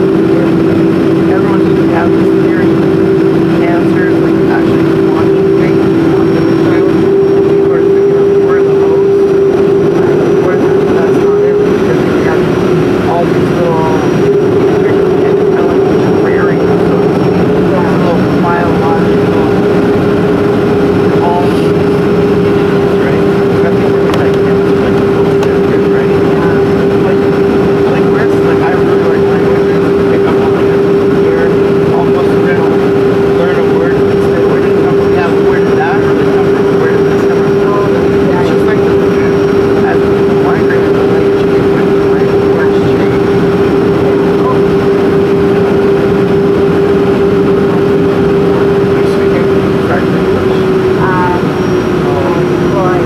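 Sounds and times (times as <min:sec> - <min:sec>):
aircraft cabin engine drone: 0:00.0 - 0:53.0.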